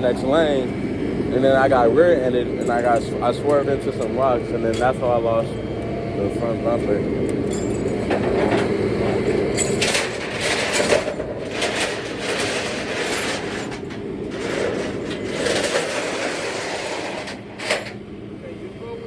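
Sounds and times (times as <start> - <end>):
vehicle rattle and rumble: 0.0 - 18.2.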